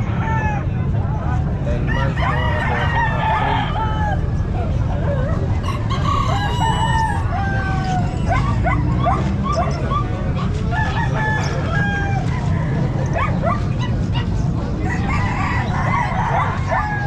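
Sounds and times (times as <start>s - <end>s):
roosters crowing and clucking: 0.0s - 17.0s.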